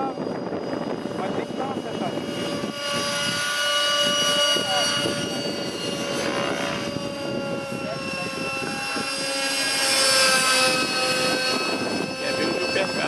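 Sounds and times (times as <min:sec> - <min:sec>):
model helicopter whine: 0:00.0 - 0:13.0.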